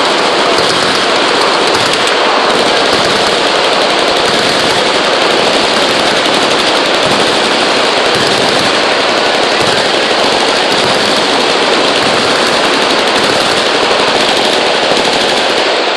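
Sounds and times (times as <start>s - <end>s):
automatic machine-gun fire: 0.0s - 15.9s.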